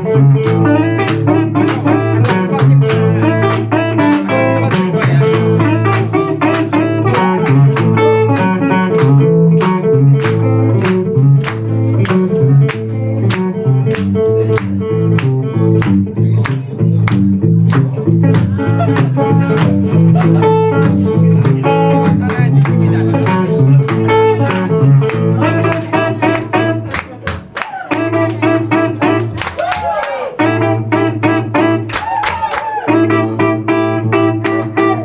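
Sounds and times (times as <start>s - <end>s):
bass line: 0.0s - 32.0s
guitar chords: 0.0s - 35.0s.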